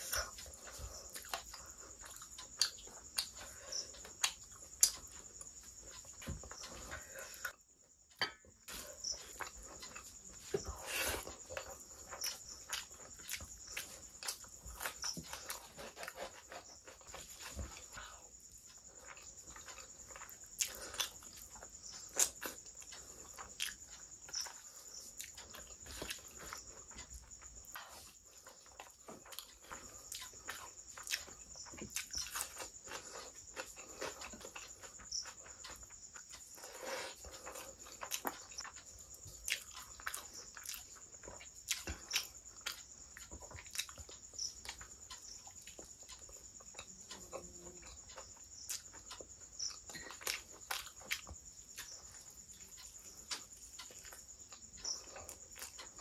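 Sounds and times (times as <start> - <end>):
chewing with wet mouth clicks: 0.0 - 7.6, 11.2 - 56.0.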